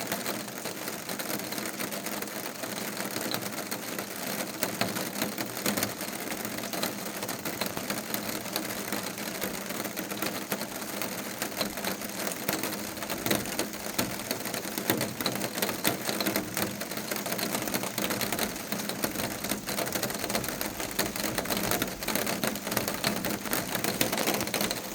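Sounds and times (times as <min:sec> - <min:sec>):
raindrops ticking on a surface: 0:00.0 - 0:24.9
steady rain: 0:00.0 - 0:24.9.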